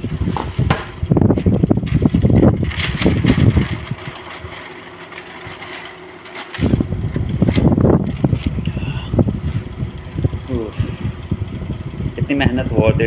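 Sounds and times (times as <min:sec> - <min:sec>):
wind buffeting microphone: 0:00.0 - 0:04.6, 0:06.5 - 0:13.0
fan humming: 0:00.0 - 0:13.0.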